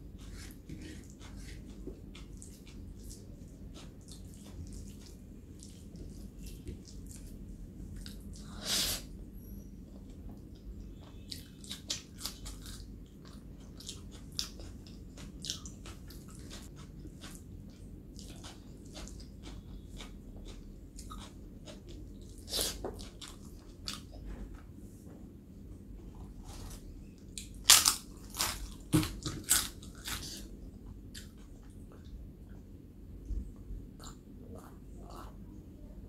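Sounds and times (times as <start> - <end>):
close-miked chewing: 0.1 - 8.6, 10.0 - 24.2, 26.4 - 32.7.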